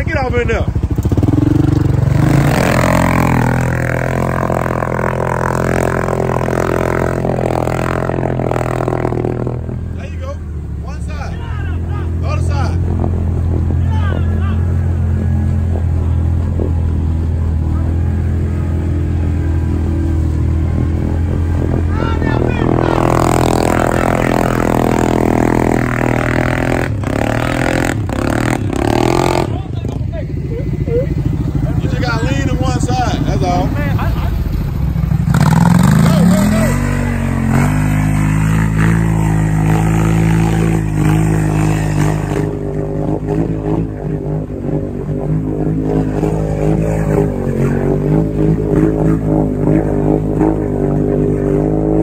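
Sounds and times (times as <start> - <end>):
quad bike engine running: 0.0 - 52.0.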